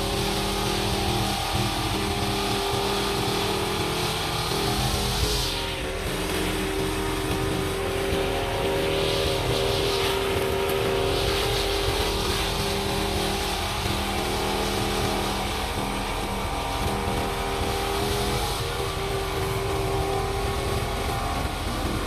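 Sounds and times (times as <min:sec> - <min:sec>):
brush cutter engine running: 0:00.0 - 0:22.0
trimmer cutting grass: 0:00.0 - 0:22.0.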